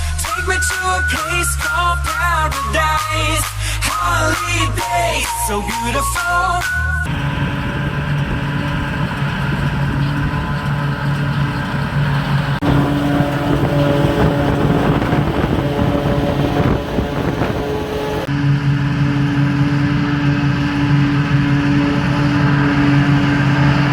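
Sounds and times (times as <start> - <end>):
tractor engines running: 0.0 - 23.9.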